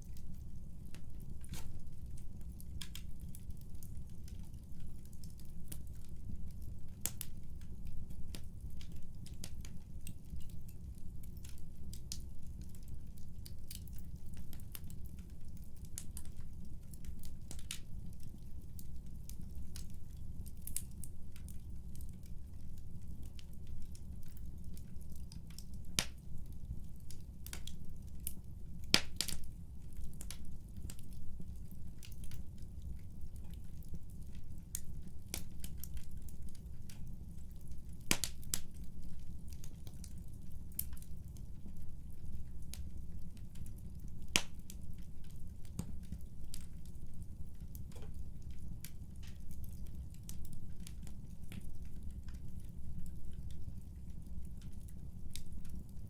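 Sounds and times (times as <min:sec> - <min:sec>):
low rumble of burning: 0:00.0 - 0:56.0
wood fire crackling: 0:00.0 - 0:56.0.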